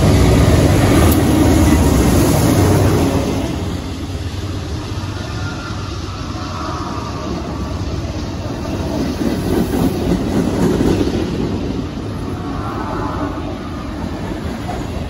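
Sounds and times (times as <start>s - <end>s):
diesel locomotive engines working: 0.0s - 15.0s
train wheels rolling over rails: 0.0s - 15.0s.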